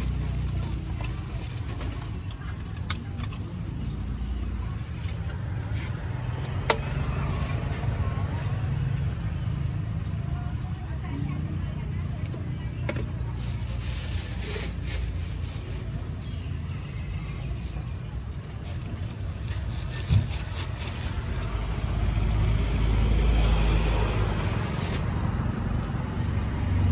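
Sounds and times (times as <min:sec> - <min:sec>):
motor vehicles rumbling: 0:00.0 - 0:26.9.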